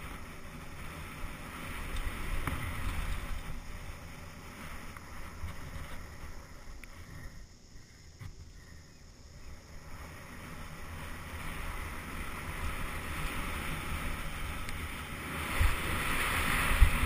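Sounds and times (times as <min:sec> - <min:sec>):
wind on microphone: 0:00.0 - 0:07.6, 0:09.5 - 0:17.0
bike tyres rolling on dirt: 0:00.0 - 0:17.0.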